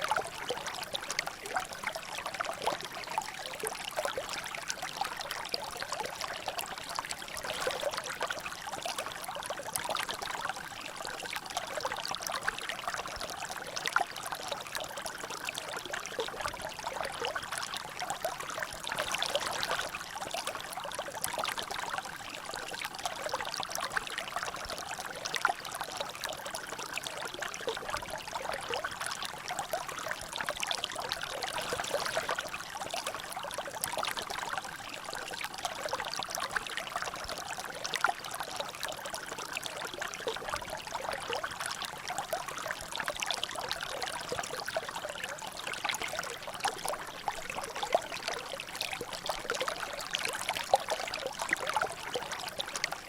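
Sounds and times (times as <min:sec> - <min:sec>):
water trickling and dripping: 0:00.0 - 0:53.0.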